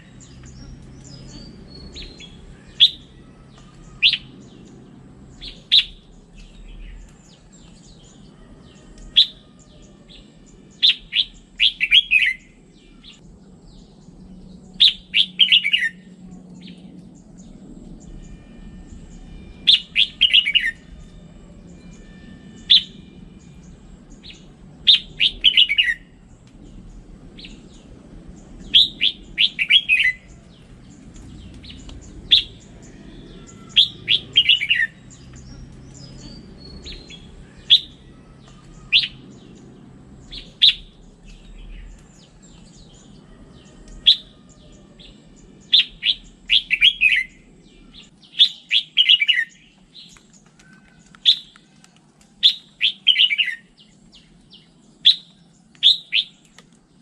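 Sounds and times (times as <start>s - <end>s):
bulbul singing: 0.0s - 51.7s, 52.4s - 57.0s.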